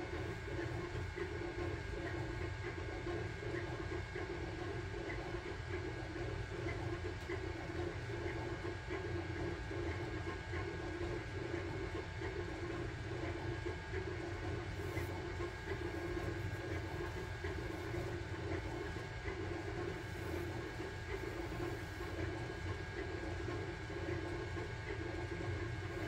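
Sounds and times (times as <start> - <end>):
printer motors and fans whirring: 0.0 - 26.0.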